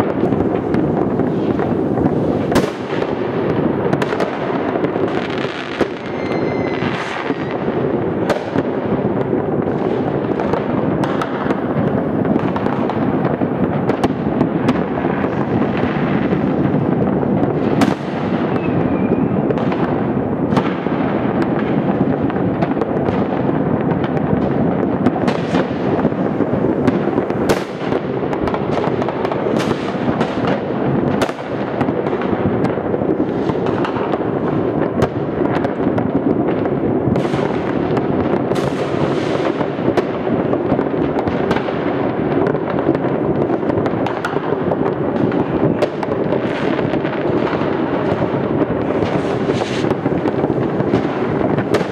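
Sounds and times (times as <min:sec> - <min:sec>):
firecrackers cracking: 0:00.0 - 0:51.9
fireworks rumble of distant bangs: 0:00.0 - 0:51.9.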